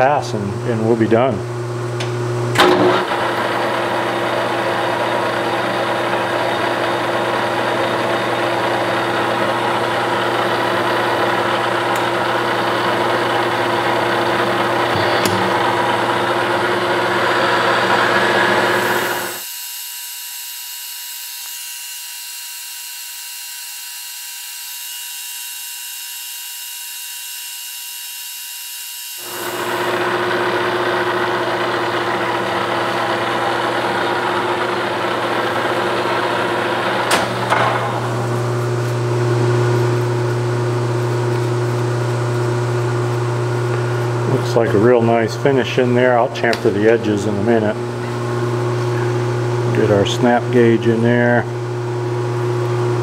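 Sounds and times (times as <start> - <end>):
metal lathe running: 2.6 - 28.2, 28.8 - 53.0.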